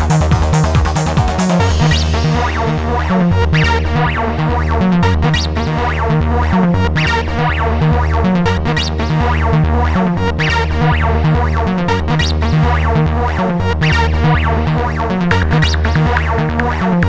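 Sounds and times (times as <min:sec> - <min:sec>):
layered synthesizer patterns: 0:00.0 - 0:17.0
synth bassline: 0:00.0 - 0:17.0.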